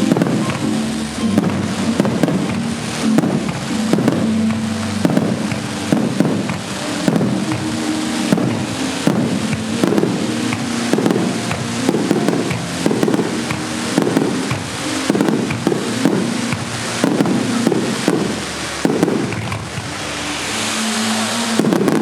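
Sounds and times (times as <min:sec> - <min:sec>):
background music low notes: 0:00.0 - 0:22.0
fireworks bangs and crackles: 0:00.0 - 0:22.0.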